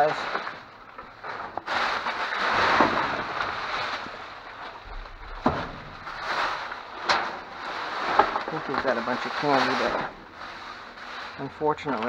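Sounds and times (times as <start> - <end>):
plastic wrappers rustling: 1.1 - 12.0.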